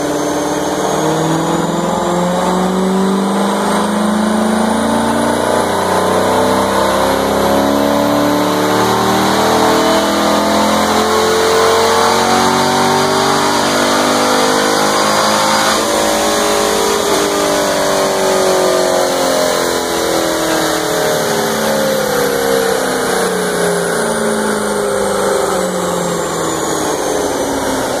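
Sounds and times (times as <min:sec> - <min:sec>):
car engine winding down: 0:00.0 - 0:28.0.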